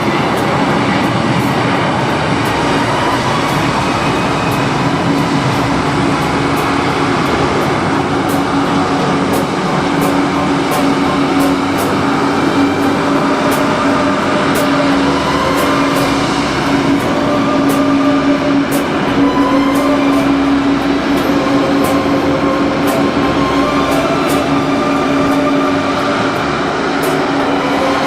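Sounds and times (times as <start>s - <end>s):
constant hum: 0.0s - 28.0s
train rumbling: 0.0s - 28.0s.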